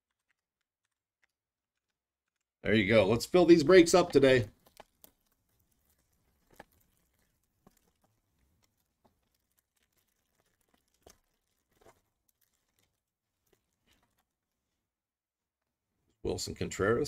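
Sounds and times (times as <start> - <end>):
foil wrapper crinkling and tearing: 0.0 - 2.5, 3.4 - 14.6.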